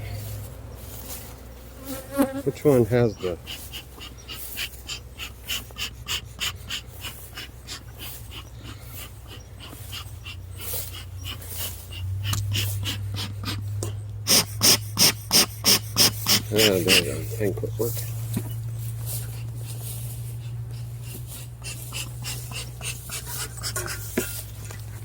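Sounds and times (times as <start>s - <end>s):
bellows airy puffs: 0.0s - 25.0s.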